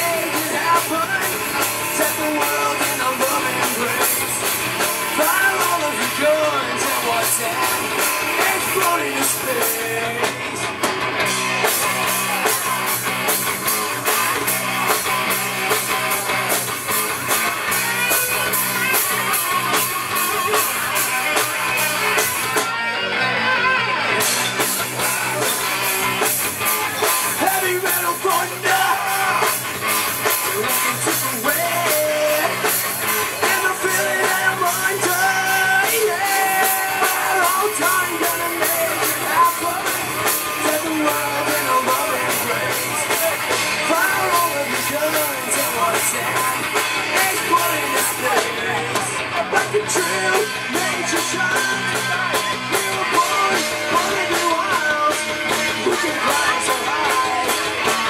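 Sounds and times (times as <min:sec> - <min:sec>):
man singing: 0:00.0 - 0:10.8, 0:11.6 - 0:58.0
bass guitar: 0:00.0 - 0:58.0
distorted electric guitars: 0:00.0 - 0:58.0
drums: 0:00.0 - 0:58.0.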